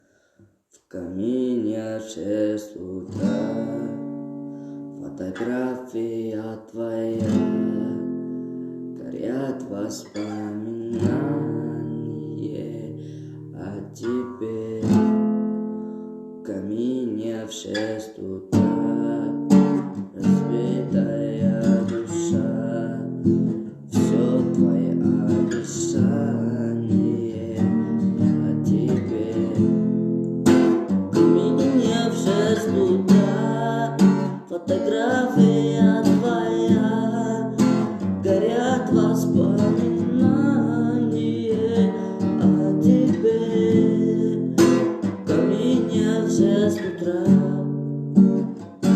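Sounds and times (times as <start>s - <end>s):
acoustic guitar strumming chords: 1.0s - 48.9s.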